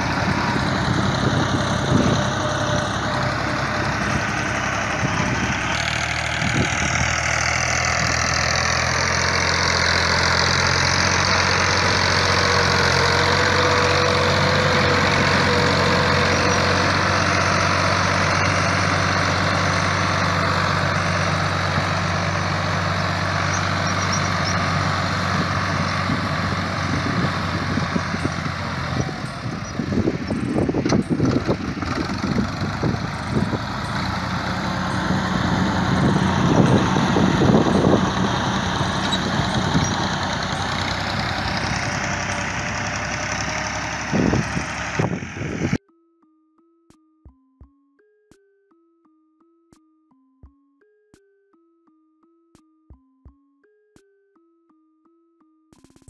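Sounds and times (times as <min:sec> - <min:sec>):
tractor diesel engine idling: 0:00.0 - 0:45.8.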